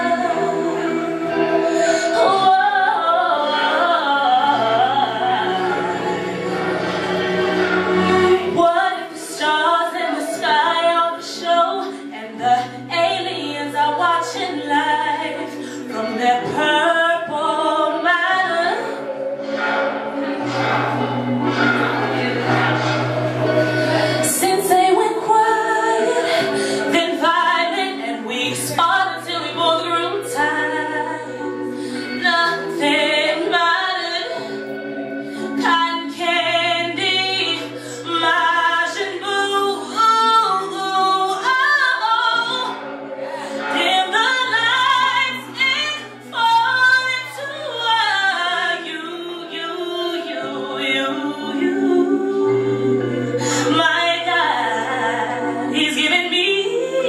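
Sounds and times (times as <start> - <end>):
sustained backing chords: 0.0 - 57.0
woman singing into microphone: 0.0 - 57.0.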